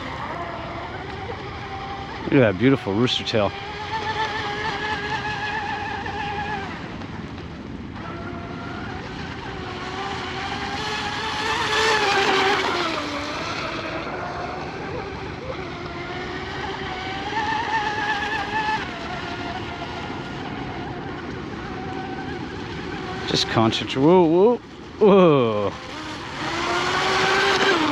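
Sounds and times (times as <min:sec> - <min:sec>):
electric motor whining: 0:00.0 - 0:27.9.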